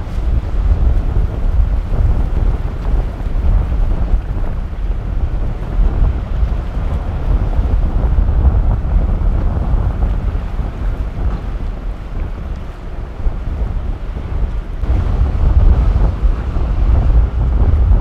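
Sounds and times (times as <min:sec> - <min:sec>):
waves breaking: 0:00.0 - 0:18.0
wind buffeting microphone: 0:00.0 - 0:18.0.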